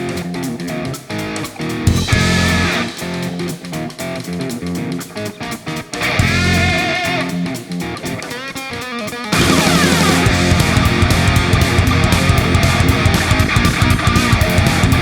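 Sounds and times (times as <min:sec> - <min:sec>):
guitar music with steady beat: 0:00.0 - 0:15.0.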